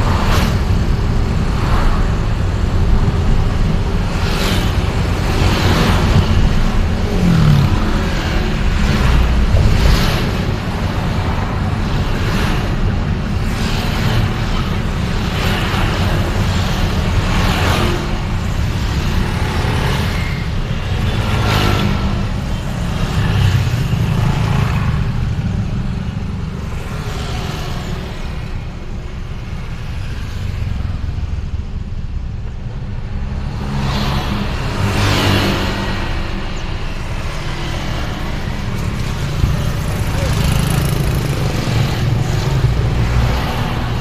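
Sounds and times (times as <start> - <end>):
engine and road rumble: 0.0 - 44.0
vehicles passing: 0.0 - 44.0.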